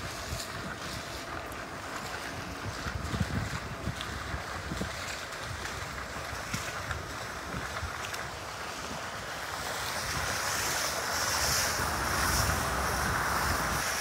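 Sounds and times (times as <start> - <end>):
car tyres rushing through water: 0.0 - 14.0
rain: 0.0 - 14.0
wind: 0.0 - 14.0.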